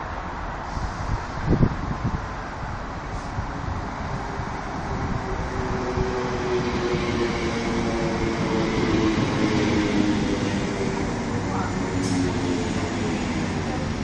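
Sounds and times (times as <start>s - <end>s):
train wheels rumbling on rails: 0.6s - 14.0s.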